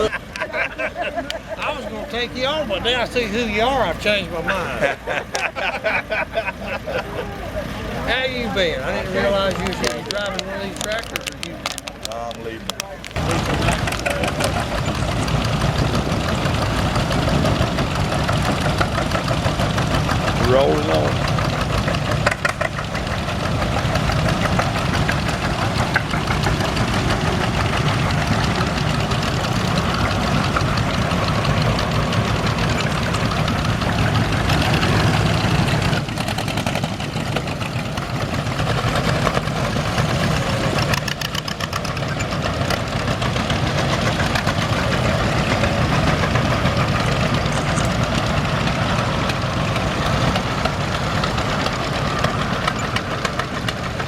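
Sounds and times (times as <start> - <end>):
tractor engines chugging: 0.0 - 54.0.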